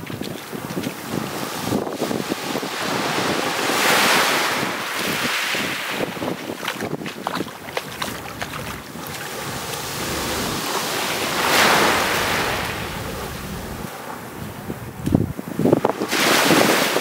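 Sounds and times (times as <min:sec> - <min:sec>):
small waves on sandy shore: 0:00.0 - 0:17.0
wind buffeting microphone: 0:00.0 - 0:17.0.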